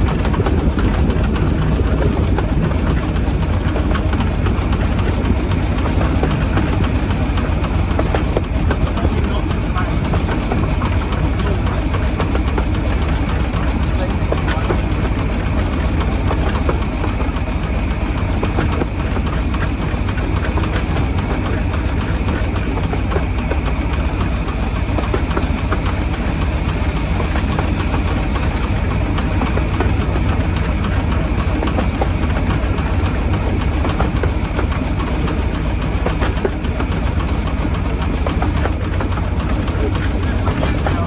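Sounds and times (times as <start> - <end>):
miniature steam locomotive running: 0.0 - 41.0
wheels clicking on rails: 0.0 - 41.0.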